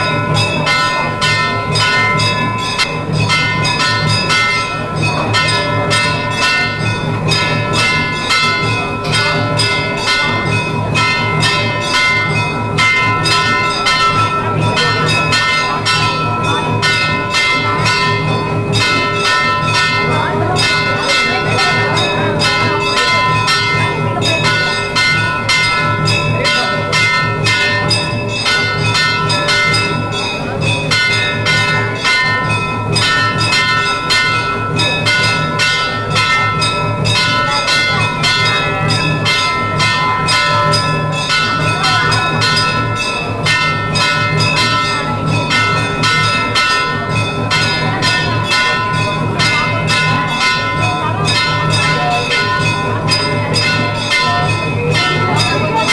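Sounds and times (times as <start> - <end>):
temple bells ringing fast: 0.0 - 55.9.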